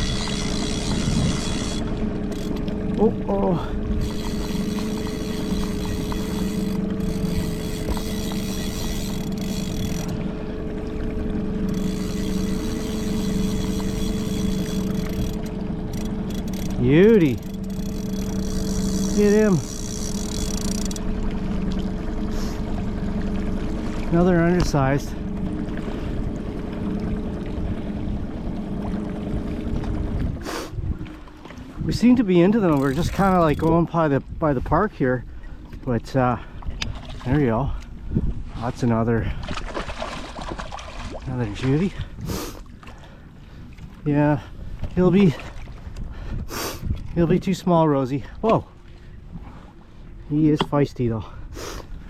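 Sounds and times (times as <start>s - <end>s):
motorboat engine humming: 0.0s - 52.0s.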